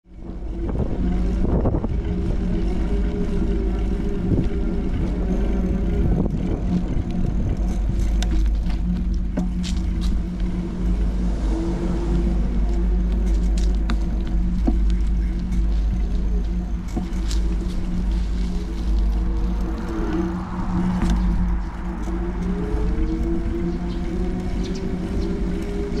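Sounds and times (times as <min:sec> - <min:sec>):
engine-like hum with low rumble: 0:00.0 - 0:26.0.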